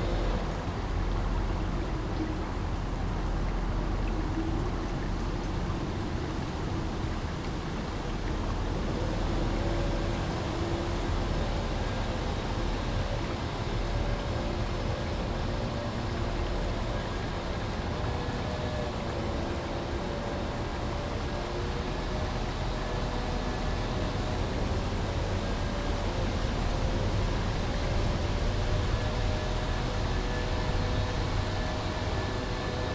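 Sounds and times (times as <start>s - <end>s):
small brook flowing: 0.0s - 32.9s.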